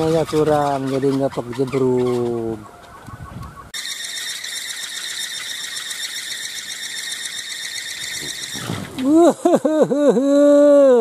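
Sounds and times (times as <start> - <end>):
wind propeller squealing whine: 0.0 - 9.0.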